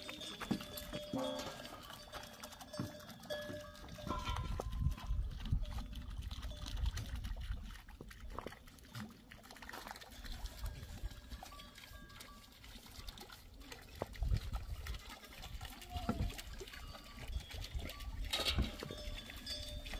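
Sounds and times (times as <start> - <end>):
water pouring and trickling: 0.0 - 19.9.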